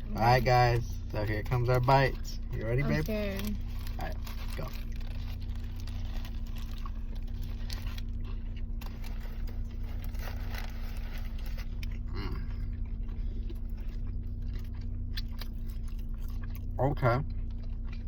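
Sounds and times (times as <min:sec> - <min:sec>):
low hum: 0:00.0 - 0:18.0
people chewing crispy food: 0:00.0 - 0:18.0.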